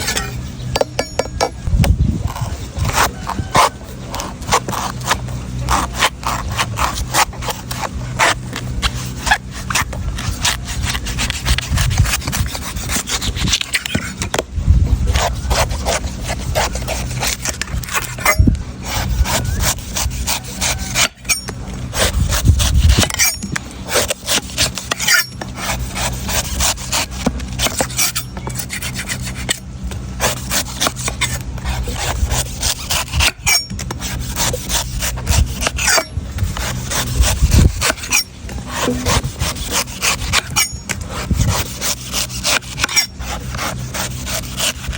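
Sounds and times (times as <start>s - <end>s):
knife scraping coconut: 0.0s - 44.9s.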